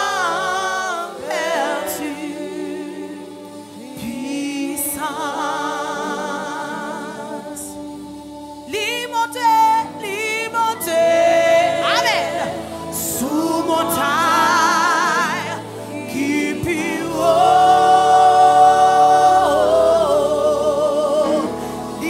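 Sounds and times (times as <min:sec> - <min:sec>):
woman singing slow melody: 0:00.0 - 0:22.0.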